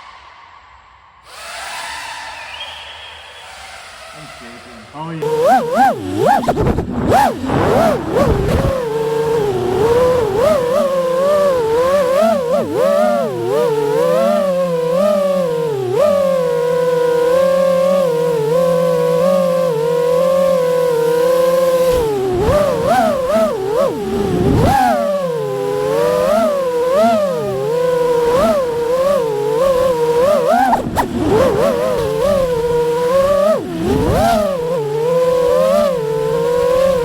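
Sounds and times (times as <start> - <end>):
drone motors whining: 1.2 - 37.0.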